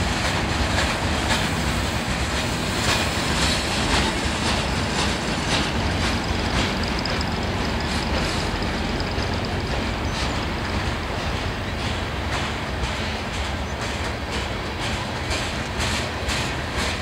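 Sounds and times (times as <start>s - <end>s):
freight train rolling by: 0.0s - 17.0s
wheels clicking over rail joints: 0.2s - 17.0s.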